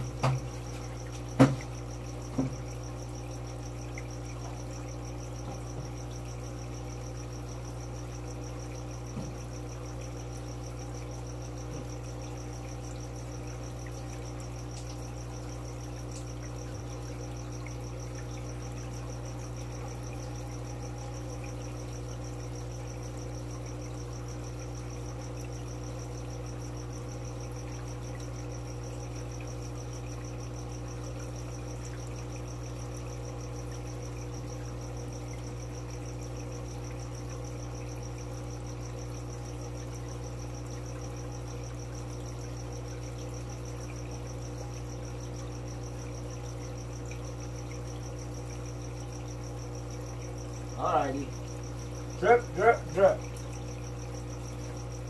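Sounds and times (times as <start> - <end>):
aquarium equipment hum: 0.0 - 55.0.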